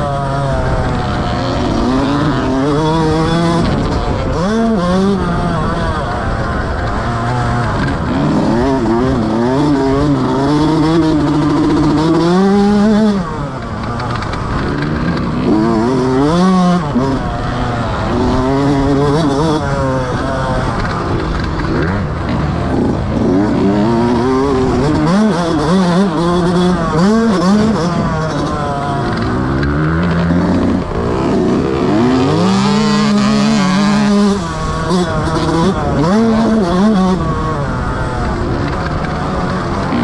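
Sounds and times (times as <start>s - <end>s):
motocross bike engine revving: 0.0s - 40.0s.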